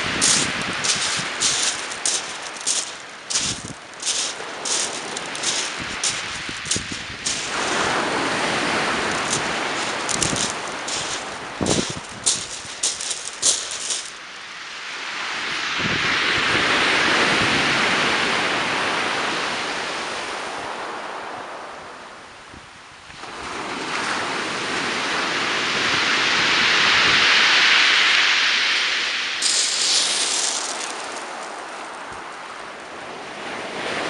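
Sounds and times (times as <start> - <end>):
surf on shingle beach: 0.0 - 34.0.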